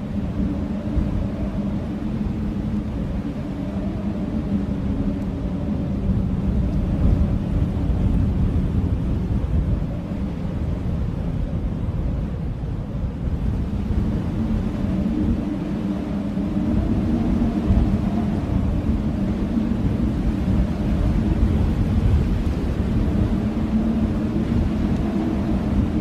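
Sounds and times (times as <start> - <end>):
blizzard wind howling: 0.0 - 26.0.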